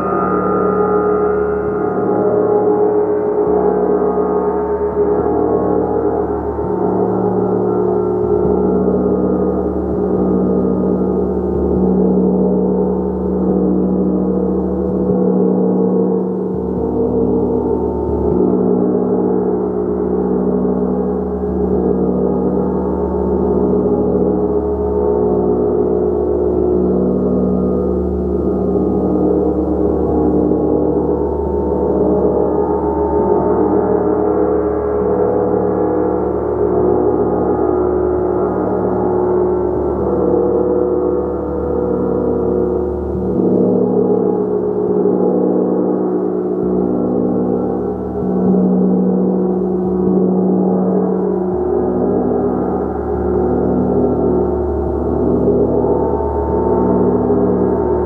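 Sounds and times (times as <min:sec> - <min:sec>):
gong played continuously: 0:00.0 - 0:58.0.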